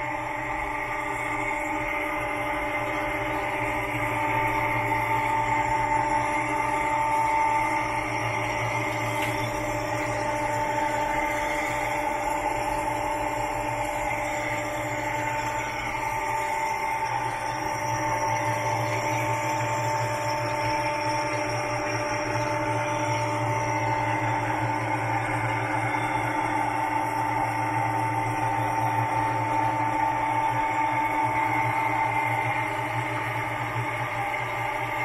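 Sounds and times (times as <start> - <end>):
high spindle whine: 0.0 - 35.0.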